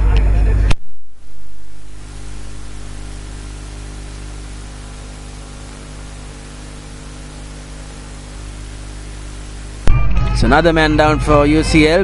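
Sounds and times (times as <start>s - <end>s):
low even hum: 0.0s - 12.0s
steady hiss: 0.7s - 12.0s.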